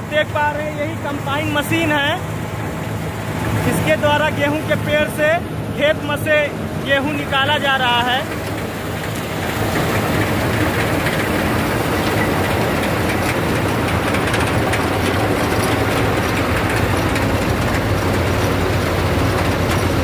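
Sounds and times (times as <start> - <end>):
diesel engine drone: 0.0 - 20.0
threshing machinery rattling: 0.0 - 20.0.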